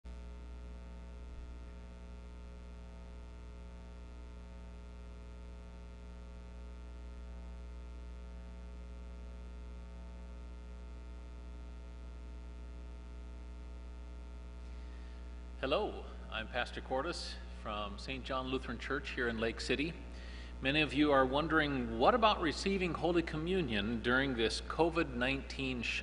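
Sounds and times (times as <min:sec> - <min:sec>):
electrical mains hum: 0:00.1 - 0:26.0.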